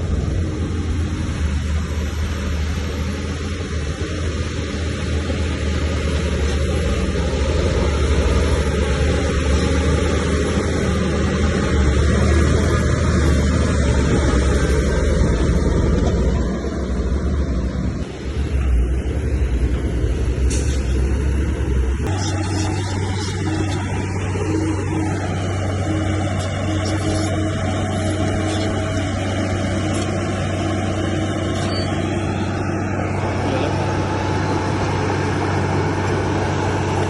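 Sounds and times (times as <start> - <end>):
heavy machinery diesel engine droning: 0.0 - 37.0.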